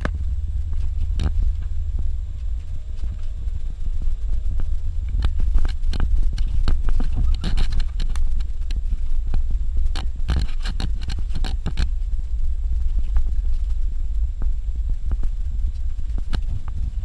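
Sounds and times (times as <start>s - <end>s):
car driving low rumble: 0.0s - 17.0s.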